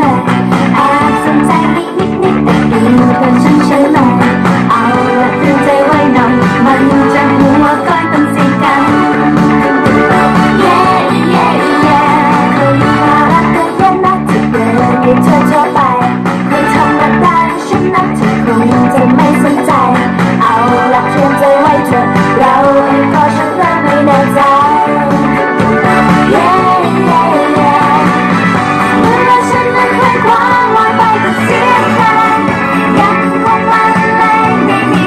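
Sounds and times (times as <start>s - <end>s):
song with singing over speaker: 0.0s - 35.0s.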